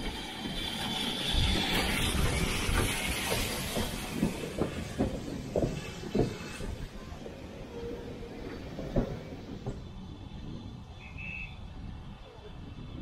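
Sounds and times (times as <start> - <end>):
steam hissing: 0.0 - 10.4
train knocks and clanks: 0.0 - 11.0.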